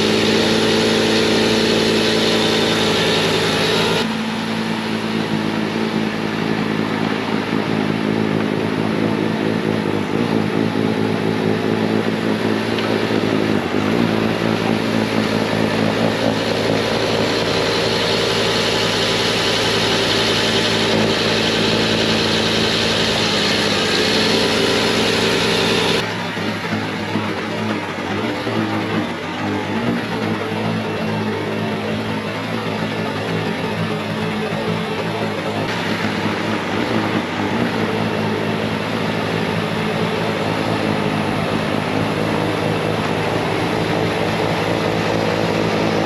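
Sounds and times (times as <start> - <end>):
diesel engine at full throttle: 0.0 - 46.0.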